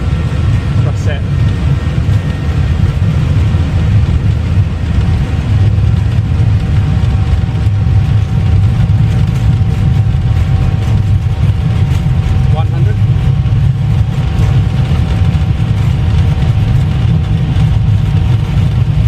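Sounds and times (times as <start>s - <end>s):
engine rumble and rushing air: 0.0s - 19.0s.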